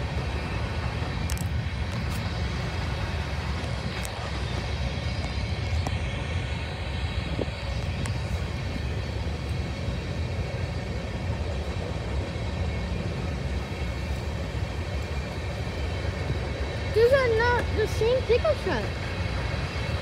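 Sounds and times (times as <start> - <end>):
distant train rumbling: 0.0 - 20.0.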